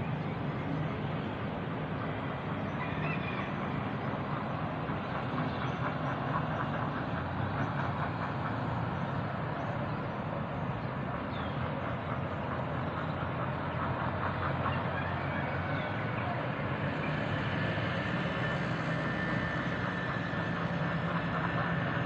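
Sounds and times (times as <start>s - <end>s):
distant road traffic hum: 0.0s - 22.0s.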